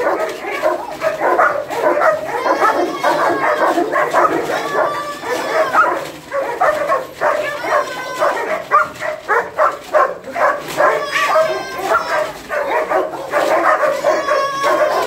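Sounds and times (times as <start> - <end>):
dogs barking: 0.0 - 15.0
dogs whining: 0.0 - 15.0.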